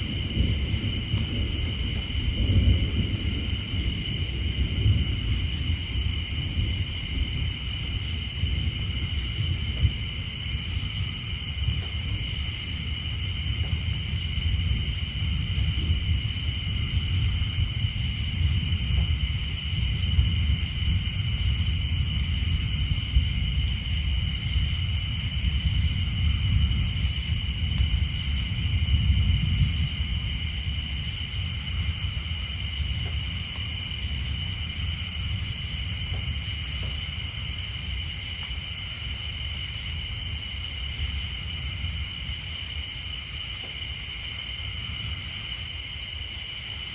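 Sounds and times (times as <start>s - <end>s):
thunder rumbling: 0.0s - 42.7s
rain on a tin roof: 0.0s - 46.9s
tree frogs and insects chorus: 0.0s - 46.9s.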